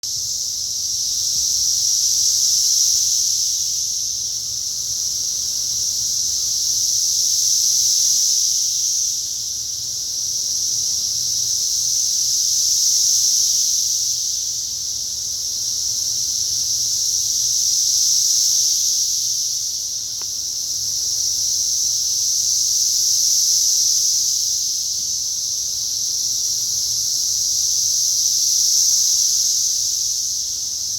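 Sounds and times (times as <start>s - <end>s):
cicadas buzzing: 0.0s - 30.9s.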